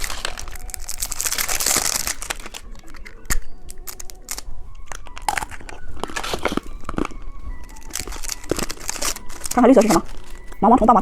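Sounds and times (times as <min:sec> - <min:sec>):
plastic wrapper crinkling and tearing: 0:00.0 - 0:11.0.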